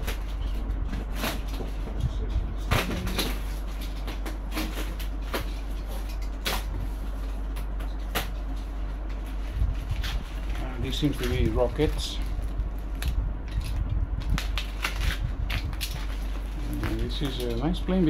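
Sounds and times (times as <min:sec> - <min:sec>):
cardboard and plastic rustling: 0:00.0 - 0:18.0
low steady hum: 0:00.0 - 0:18.0.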